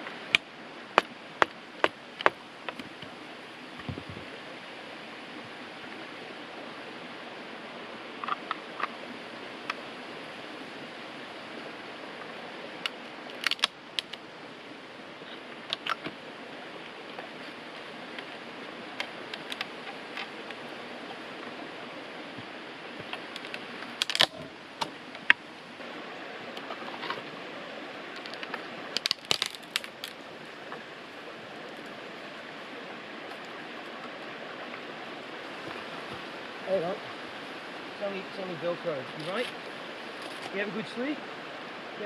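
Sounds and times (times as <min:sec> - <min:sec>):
background hiss: 0:00.0 - 0:42.0.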